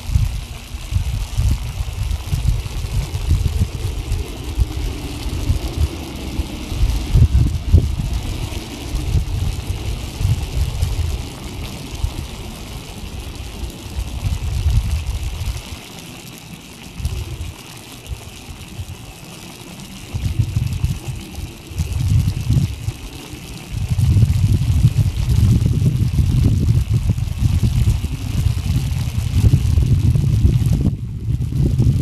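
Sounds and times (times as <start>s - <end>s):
steady faint hiss: 0.0s - 32.0s
wind buffeting microphone: 0.0s - 32.0s.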